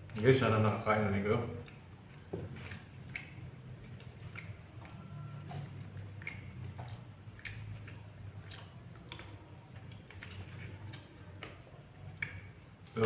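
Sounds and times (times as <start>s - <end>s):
chewing and mouth sounds: 0.0s - 13.0s
low steady hum: 0.0s - 13.0s.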